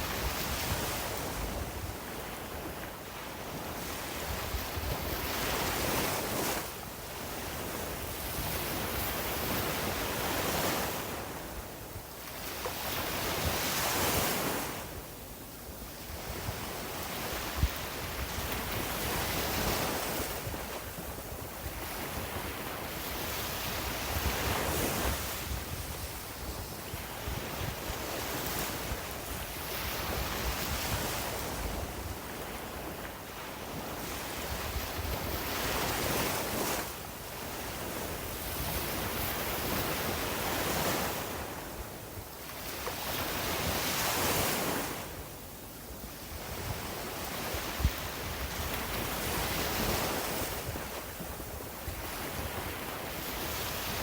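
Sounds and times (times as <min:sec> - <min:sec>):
wind rumbling on microphone: 0:00.0 - 0:15.1, 0:15.8 - 0:45.3, 0:46.0 - 0:54.0
waves breaking on a beach: 0:00.0 - 0:54.0.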